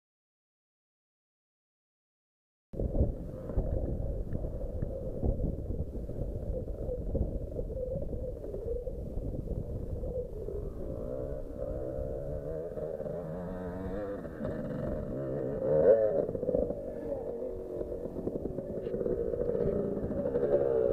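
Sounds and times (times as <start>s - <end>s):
distant dirt bike revving: 2.8s - 20.9s
wind buffeting microphone: 2.8s - 20.9s.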